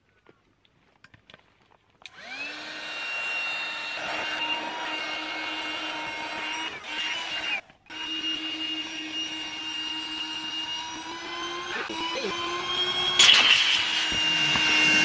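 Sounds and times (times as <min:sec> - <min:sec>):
electric air pump whining: 0:02.1 - 0:15.0.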